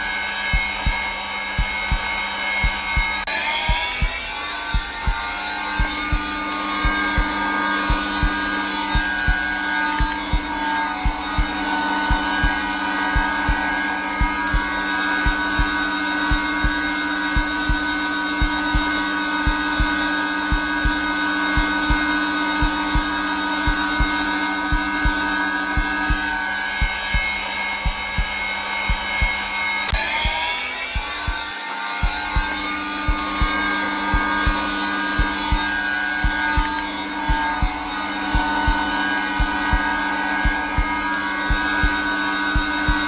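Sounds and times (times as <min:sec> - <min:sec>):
heartbeat thumps: 0:00.0 - 0:43.0
vacuum cleaner motor whine: 0:00.0 - 0:43.0.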